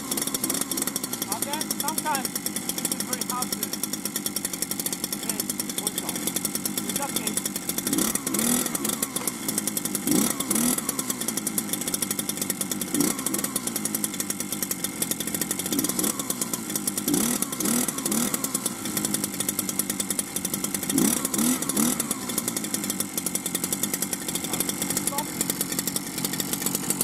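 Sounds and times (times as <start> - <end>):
two-stroke engine running: 0.0 - 27.0.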